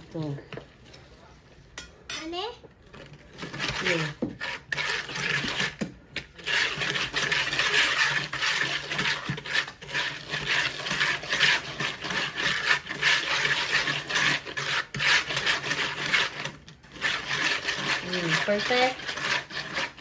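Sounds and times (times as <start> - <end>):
eggshell scraping on bowl rim: 3.3 - 20.0.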